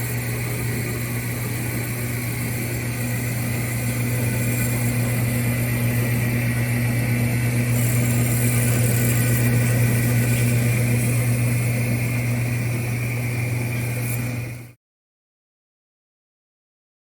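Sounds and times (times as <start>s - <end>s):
bandsaw motor humming: 0.0s - 14.8s.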